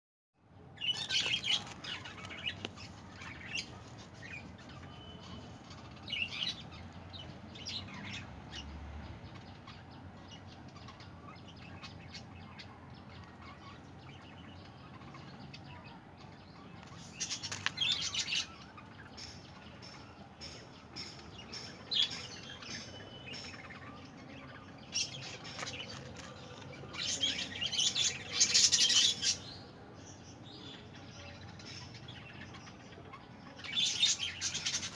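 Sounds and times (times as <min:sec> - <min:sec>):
budgerigars chirping and chattering: 0:00.8 - 0:08.7, 0:09.3 - 0:34.9.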